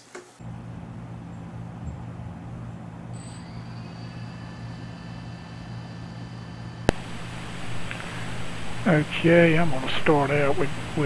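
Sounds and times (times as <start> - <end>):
steady low hum: 0.4 - 11.0
drone motors whining: 0.5 - 11.0.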